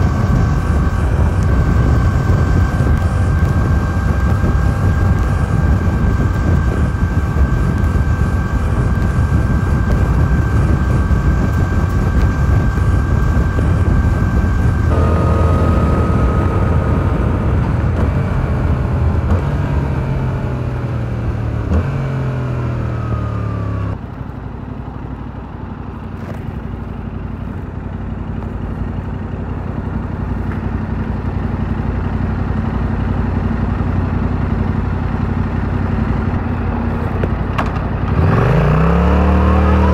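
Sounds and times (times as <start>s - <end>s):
motorcycle engine: 0.0s - 39.9s
rushing road noise: 0.0s - 39.9s.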